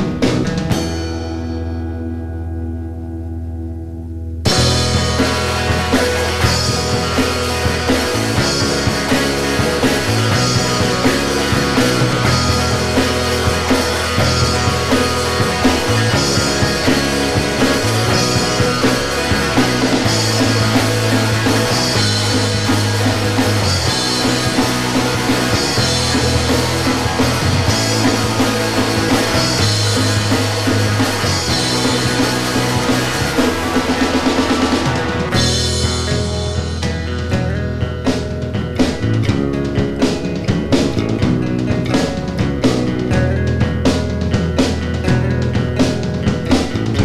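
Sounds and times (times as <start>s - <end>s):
drum kit and cymbals: 0.0s - 1.9s, 4.5s - 47.0s
electric guitars: 0.0s - 47.0s
held bass notes: 0.0s - 47.0s.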